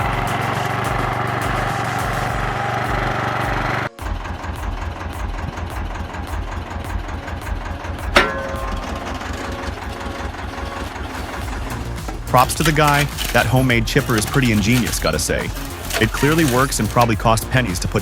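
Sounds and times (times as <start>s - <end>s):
small engines running: 0.0s - 18.0s
wood chipper engine: 0.0s - 18.0s.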